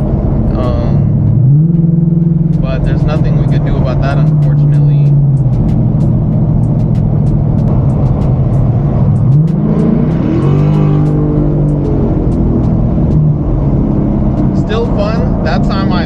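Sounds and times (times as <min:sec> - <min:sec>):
car engine accelerating: 0:00.0 - 0:16.0
road noise: 0:00.0 - 0:16.0.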